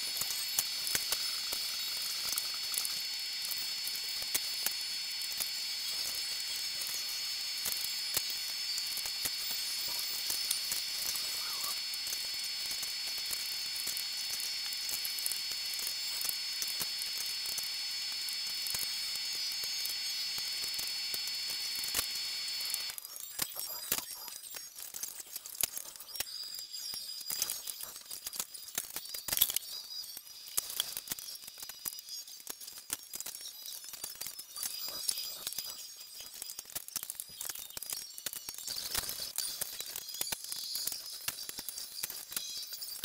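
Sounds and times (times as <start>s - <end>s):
thin whine: 0.0s - 43.0s
tiny clicks from hands: 0.0s - 43.0s.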